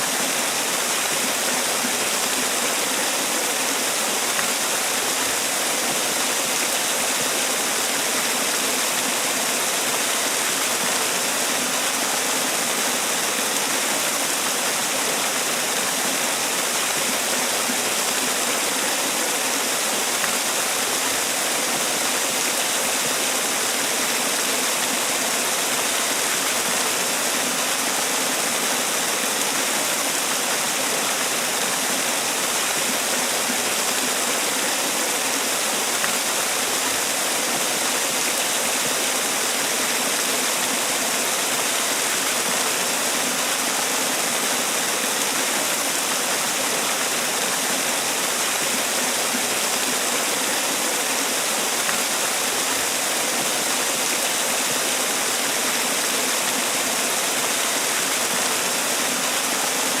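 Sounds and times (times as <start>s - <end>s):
waterfall pouring and splashing: 0.0s - 60.0s.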